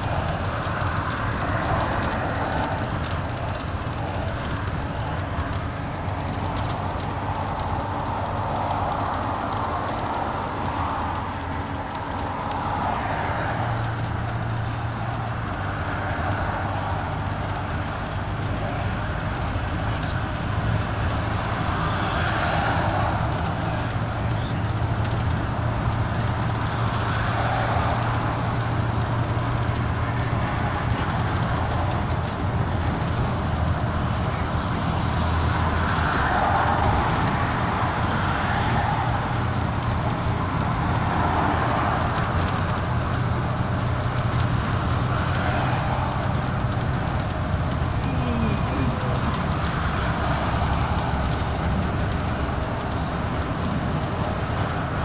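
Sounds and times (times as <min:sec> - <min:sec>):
bus engine drone: 0:00.0 - 0:55.0
road and tyre roar: 0:00.0 - 0:55.0.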